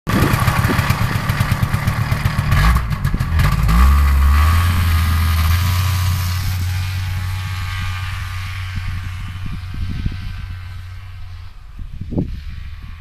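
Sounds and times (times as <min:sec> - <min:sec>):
snowmobile engine running: 0:00.1 - 0:13.0.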